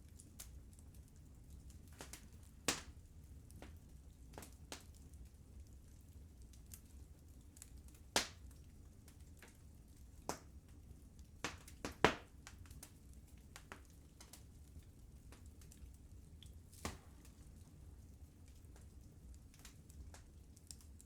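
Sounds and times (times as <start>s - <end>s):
low steady fire rumble: 0.0s - 21.0s
wood fire crackling and popping: 0.0s - 21.0s.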